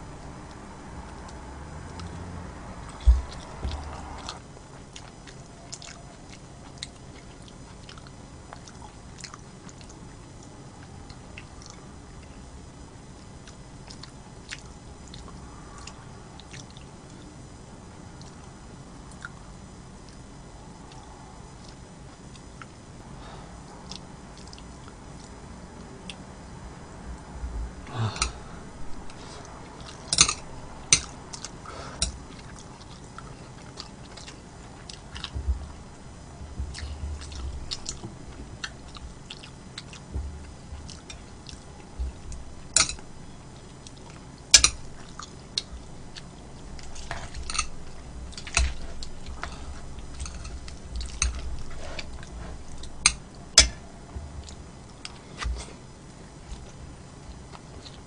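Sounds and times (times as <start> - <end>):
person chewing food: 0.4 - 12.5, 13.2 - 17.2, 23.9 - 25.4, 28.1 - 58.0.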